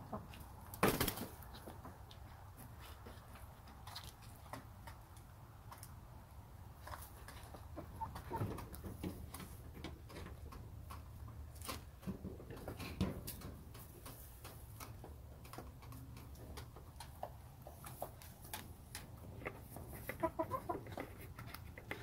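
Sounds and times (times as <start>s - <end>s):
hens murmuring: 0.0s - 22.0s
hens pecking and scratching: 0.0s - 22.0s.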